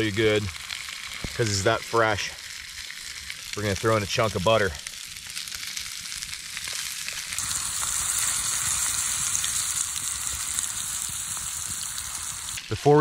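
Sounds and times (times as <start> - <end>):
fish sizzling in frying pan: 0.0 - 12.7.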